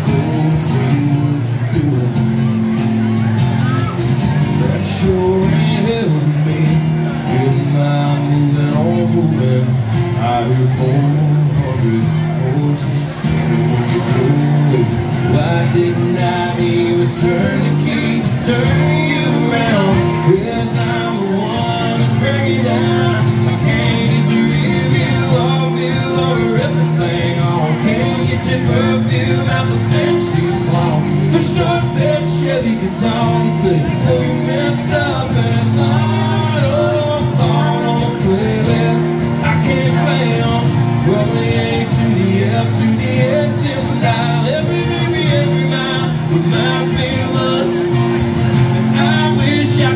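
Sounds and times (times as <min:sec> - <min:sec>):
acoustic guitars strumming: 0:00.0 - 0:49.9
man singing: 0:00.0 - 0:49.9.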